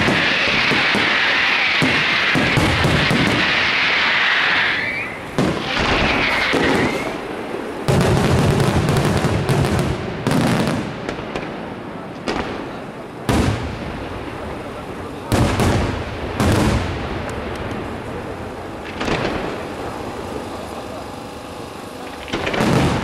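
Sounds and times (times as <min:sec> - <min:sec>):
firework bangs with echo: 0:00.0 - 0:21.0, 0:21.6 - 0:23.0
firework crackling hiss: 0:00.0 - 0:23.0.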